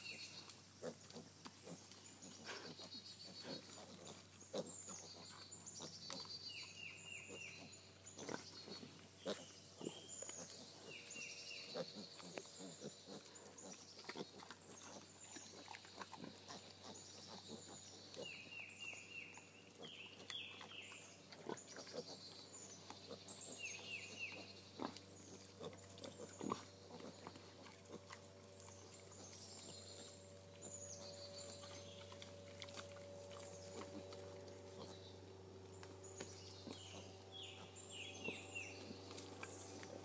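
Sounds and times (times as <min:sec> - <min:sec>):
pigs grunting faintly: 0:00.0 - 0:40.0.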